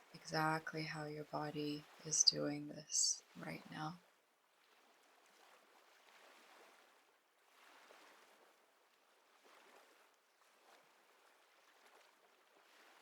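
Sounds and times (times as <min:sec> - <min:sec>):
faint ocean waves on shore: 0:00.0 - 0:13.0.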